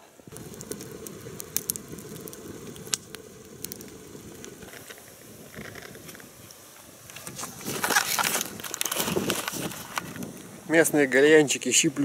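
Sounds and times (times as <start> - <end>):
campfire crackling and popping: 0.0 - 11.6
fire low rush: 0.0 - 11.8.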